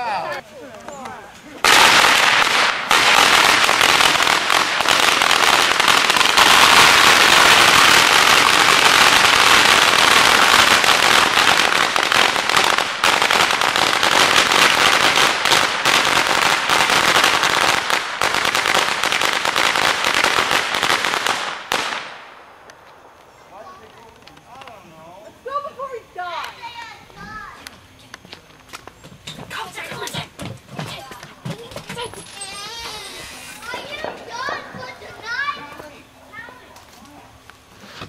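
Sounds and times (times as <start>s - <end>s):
firecrackers cracking and popping: 0.2s - 24.8s, 25.4s - 36.0s.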